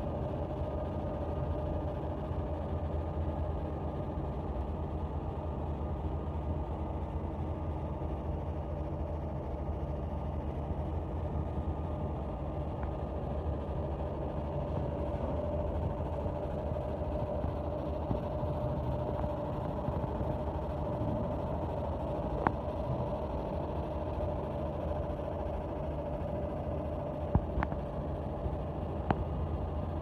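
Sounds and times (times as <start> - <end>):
constant mid-pitched tone: 0.0 - 30.0
laser machine humming: 0.0 - 30.0.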